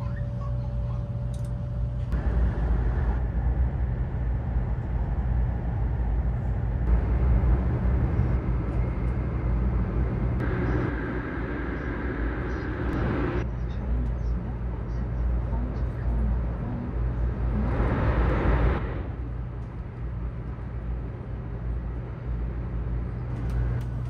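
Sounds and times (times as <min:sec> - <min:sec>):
train cabin rumble and rushing: 0:00.0 - 0:24.0.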